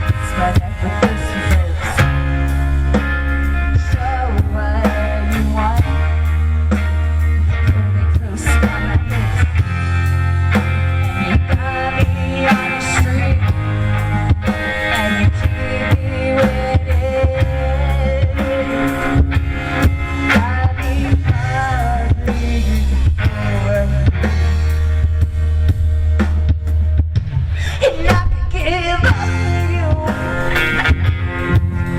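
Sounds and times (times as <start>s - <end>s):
drum kit beat: 0.0s - 31.9s
heavy bass: 0.0s - 31.9s
rock band playing: 0.0s - 31.9s.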